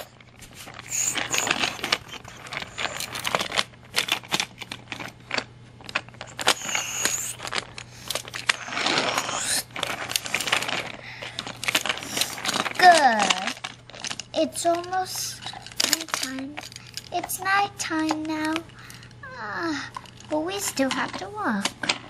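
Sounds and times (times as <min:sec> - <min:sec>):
toy trains clattering: 0:00.7 - 0:22.0.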